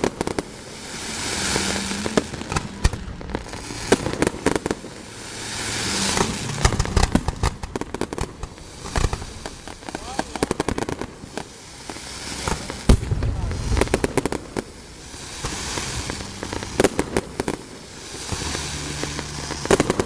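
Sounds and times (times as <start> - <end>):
fireworks cracking and popping: 0.0 - 20.0
fireworks hissing: 0.0 - 20.0.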